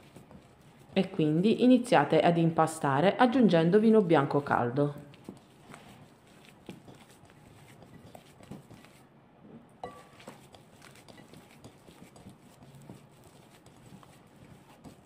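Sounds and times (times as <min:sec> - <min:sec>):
hands kneading dough: 0:00.0 - 0:02.3, 0:04.0 - 0:15.0.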